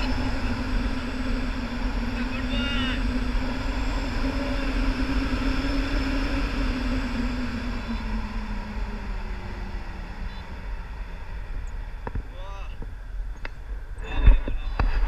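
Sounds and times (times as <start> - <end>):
deep rumble: 0.0 - 15.0
steady hum: 0.0 - 15.0
wind buffeting microphone: 0.0 - 15.0.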